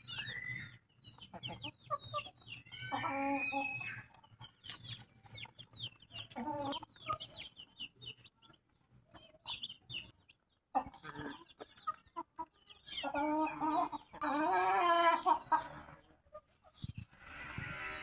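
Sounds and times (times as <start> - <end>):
chickens clucking and calling: 0.0 - 18.0.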